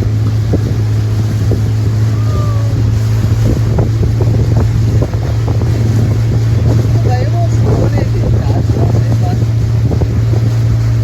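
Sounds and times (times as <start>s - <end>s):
motorboat engine droning: 0.0s - 11.0s
wind gusts on microphone: 0.0s - 11.0s.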